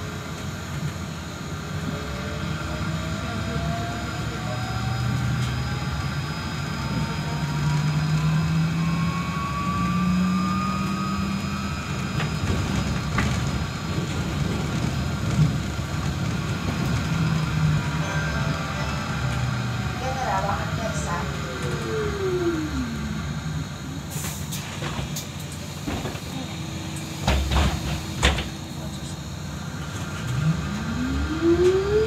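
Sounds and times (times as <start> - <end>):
road noise: 0.1 - 32.0.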